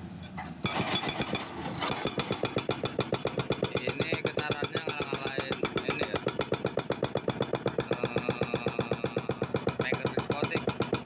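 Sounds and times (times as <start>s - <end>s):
excavator diesel engine running: 0.0s - 11.0s
hydraulic breaker hammering concrete: 0.6s - 11.0s.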